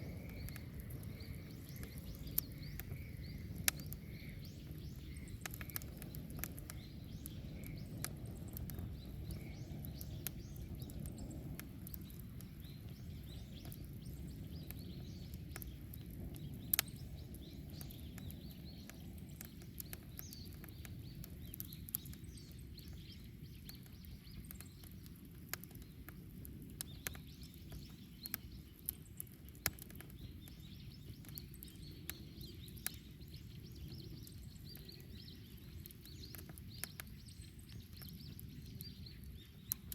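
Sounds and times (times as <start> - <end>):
burning wood crackling and popping: 0.0 - 39.9
rush of bonfire flame: 0.0 - 39.9.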